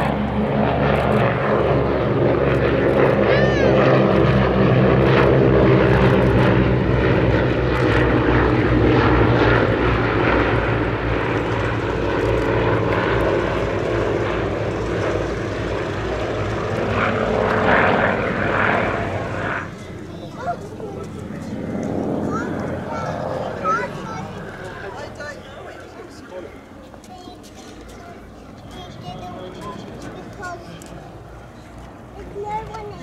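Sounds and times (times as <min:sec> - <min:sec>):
propeller aircraft engines droning: 0:00.0 - 0:33.0.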